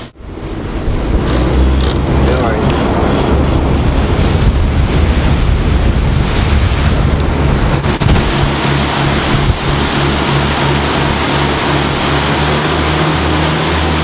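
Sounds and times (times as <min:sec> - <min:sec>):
boat engine drone: 0:00.0 - 0:14.0
rushing water: 0:00.0 - 0:14.0
wind buffeting microphone: 0:00.0 - 0:14.0.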